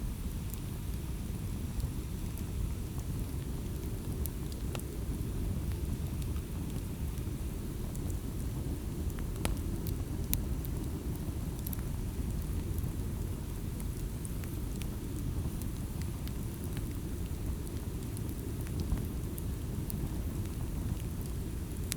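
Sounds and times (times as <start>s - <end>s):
campfire crackling and popping: 0.3s - 21.9s.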